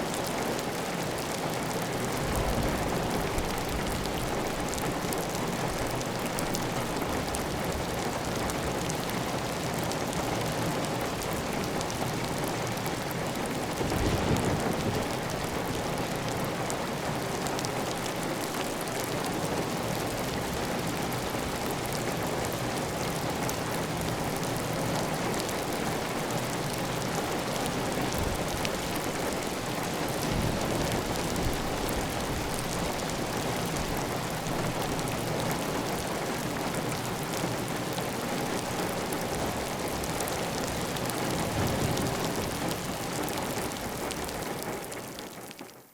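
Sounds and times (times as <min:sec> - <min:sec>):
heavy rain on a tile roof: 0:00.0 - 0:45.9.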